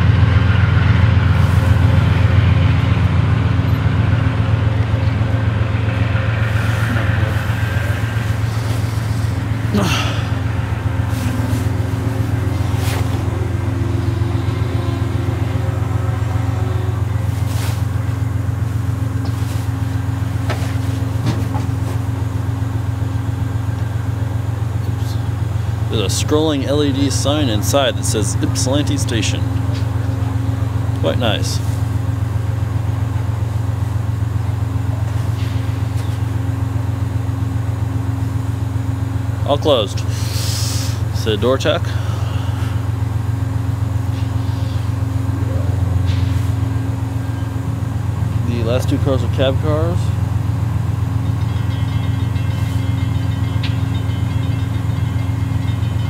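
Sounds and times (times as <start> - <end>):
diesel locomotive droning: 0.0 - 56.0
even hum: 0.0 - 56.0.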